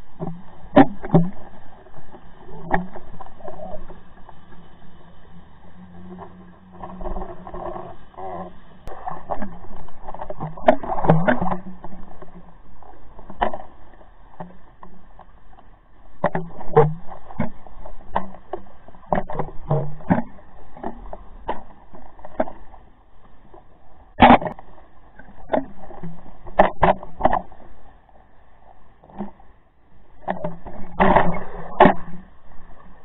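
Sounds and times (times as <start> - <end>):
muffled underwater knocks and clicks: 0.0 - 5.2, 5.8 - 28.0, 28.6 - 33.0.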